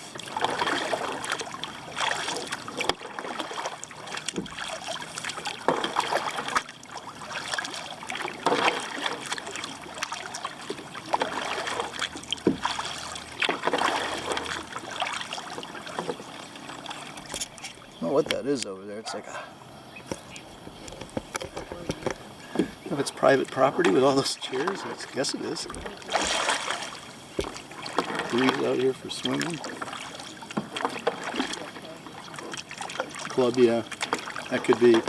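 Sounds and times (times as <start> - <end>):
paddle splashing in water: 0.0 - 18.4, 20.1 - 35.0.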